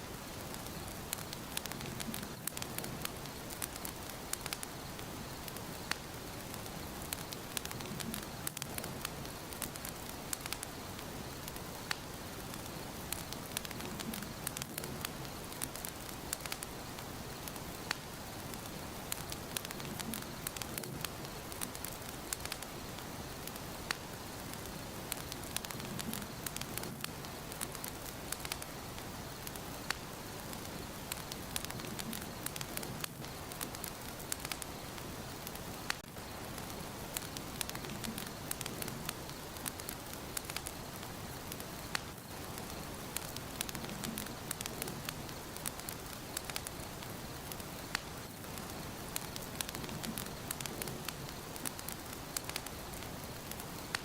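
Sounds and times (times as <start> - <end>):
fire crackling and popping: 0.0 - 54.0
wood fire hissing: 0.0 - 54.0.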